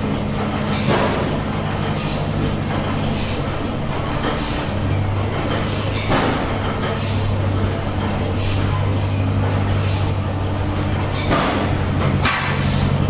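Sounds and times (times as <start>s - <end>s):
stationary gas engines running: 0.0s - 13.0s.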